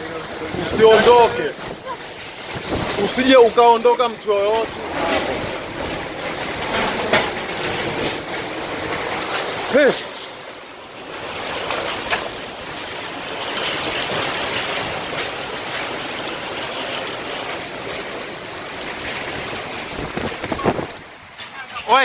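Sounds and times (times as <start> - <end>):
sea rushing: 0.0 - 22.0
strong storm wind: 0.0 - 22.0.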